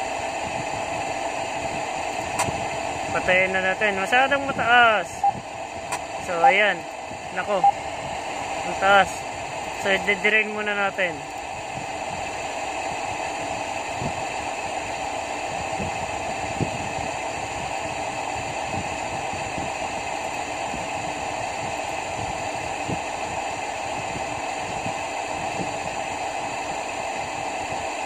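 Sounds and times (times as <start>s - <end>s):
fan-like machinery hum: 0.0s - 28.0s.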